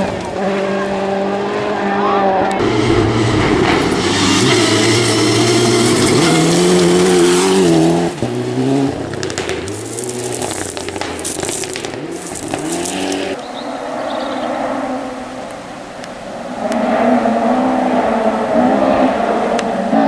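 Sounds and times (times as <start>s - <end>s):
engine crackles: 0.0s - 20.0s
quieter engine: 0.0s - 20.0s
rally car engine accelerating: 0.0s - 20.0s.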